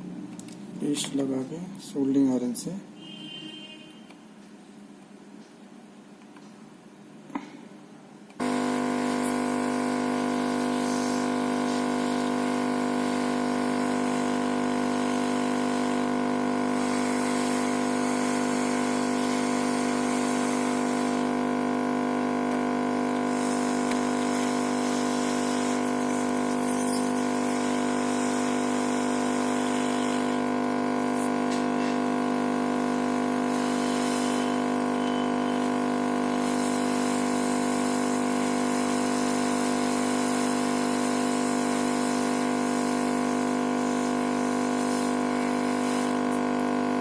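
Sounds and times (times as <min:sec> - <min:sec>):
loud electrical hum: 0:00.0 - 0:47.0.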